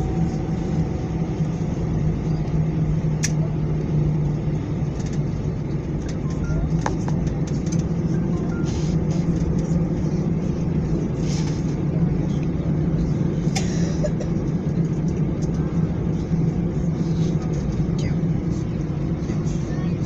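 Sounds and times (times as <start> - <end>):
airliner engines humming: 0.0 - 20.0.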